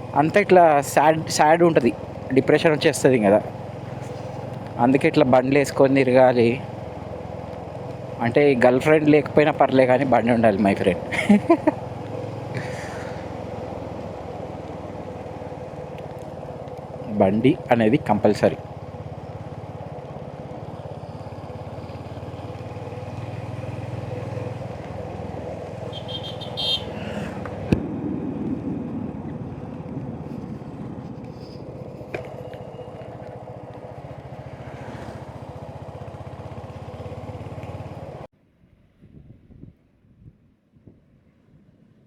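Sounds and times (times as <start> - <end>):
motorcycle engine running: 0.0 - 38.3
road and wind noise: 0.0 - 42.0.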